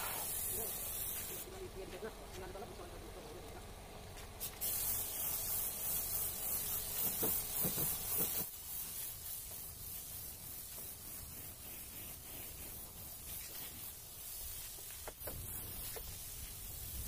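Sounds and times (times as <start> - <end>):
paint spray gun hissing: 0.0 - 1.5, 4.4 - 17.0.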